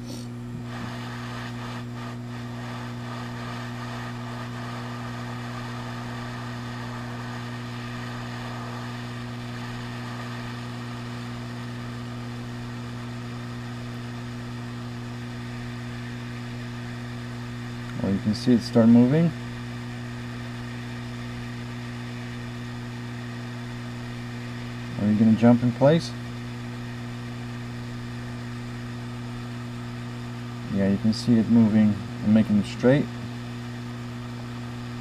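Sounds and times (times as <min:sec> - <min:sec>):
hot air station blower hum: 0:00.0 - 0:35.0.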